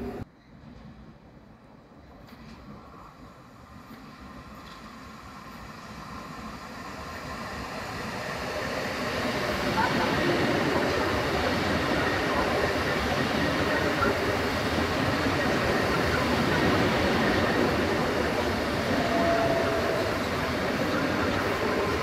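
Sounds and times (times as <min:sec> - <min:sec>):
train wheels rumbling: 0:02.2 - 0:22.0.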